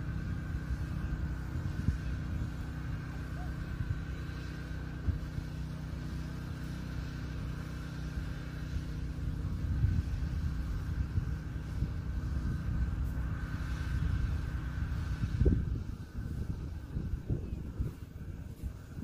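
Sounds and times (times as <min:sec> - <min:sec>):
engine idling hum: 0:00.0 - 0:19.0
wind buffeting microphone: 0:00.0 - 0:19.0.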